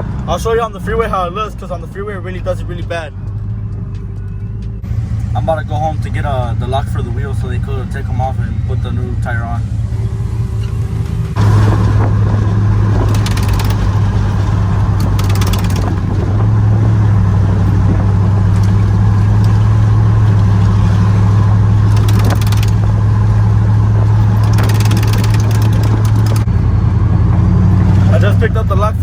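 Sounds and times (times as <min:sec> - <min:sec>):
truck engine and road drone: 0:00.0 - 0:29.0.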